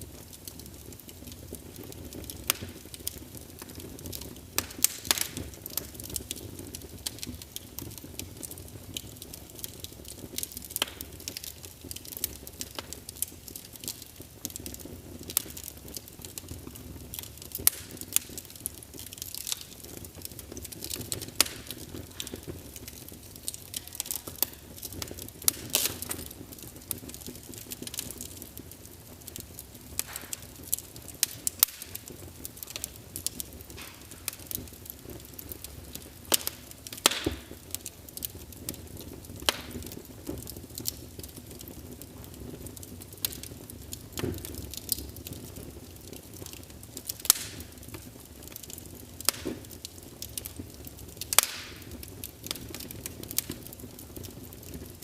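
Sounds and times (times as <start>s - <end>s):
low hiss of burning: 0.0s - 55.0s
wood fire crackling and popping: 0.0s - 55.0s.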